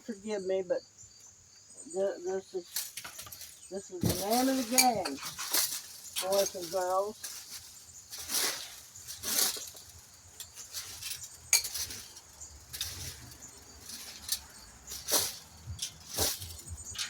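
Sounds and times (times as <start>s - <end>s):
rake scraping through dry leaves: 2.6s - 17.0s.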